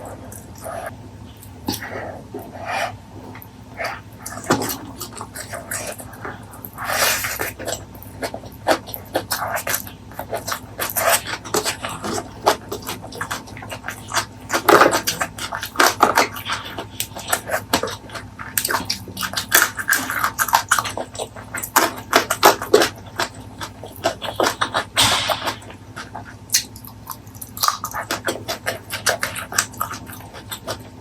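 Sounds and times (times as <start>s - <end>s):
wet chewing: 0.0s - 31.0s
lip smacks: 3.4s - 31.0s.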